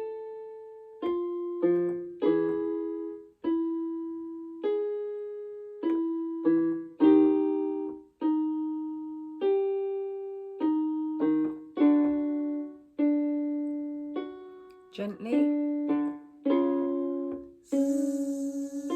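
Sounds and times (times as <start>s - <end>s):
piano notes and chords: 0.0s - 18.9s.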